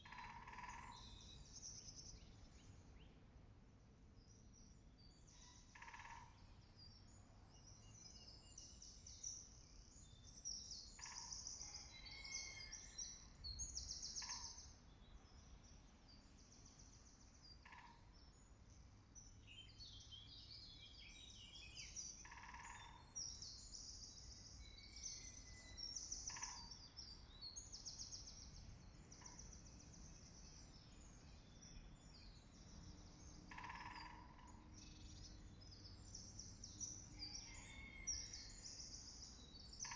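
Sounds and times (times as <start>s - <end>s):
faint songbirds twittering: 0.0s - 39.9s.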